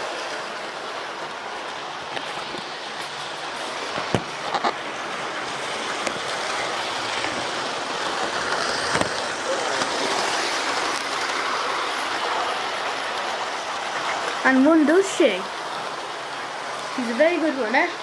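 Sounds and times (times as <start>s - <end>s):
sharp clicks of train wheels: 2.1s - 17.0s
model train motor whirring: 2.5s - 17.7s.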